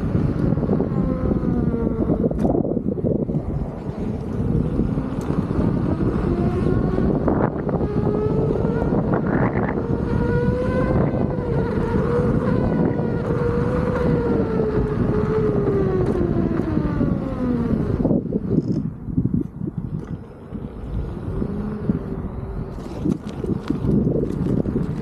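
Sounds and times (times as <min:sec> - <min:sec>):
electric unicycle motor whining: 0:00.0 - 0:25.0
wind noise on microphone: 0:00.0 - 0:25.0.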